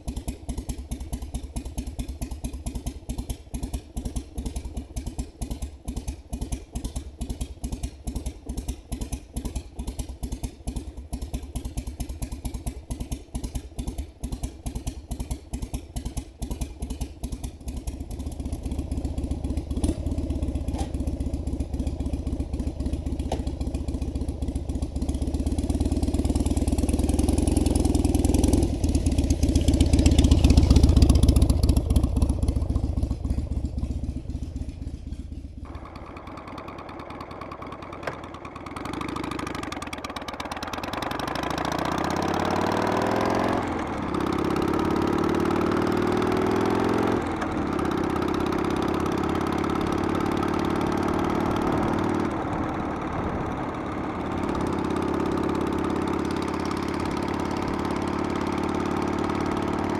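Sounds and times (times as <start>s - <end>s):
motorcycle engine revving through gears: 3.6s - 59.9s.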